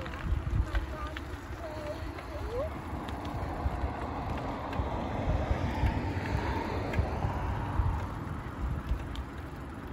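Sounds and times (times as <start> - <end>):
outdoor rush of noise: 0.0 - 9.9
wind buffeting microphone: 0.0 - 9.9.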